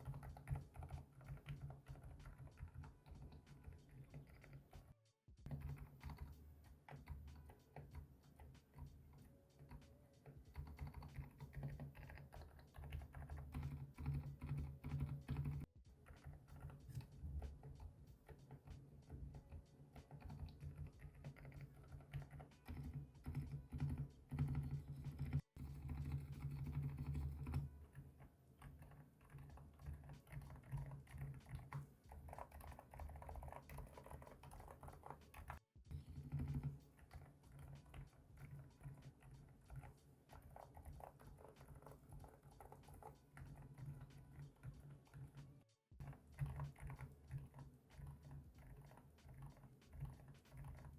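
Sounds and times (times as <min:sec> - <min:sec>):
rapid typing on mechanical keyboard: 0:00.0 - 0:04.8, 0:05.4 - 0:45.4, 0:46.0 - 0:50.9.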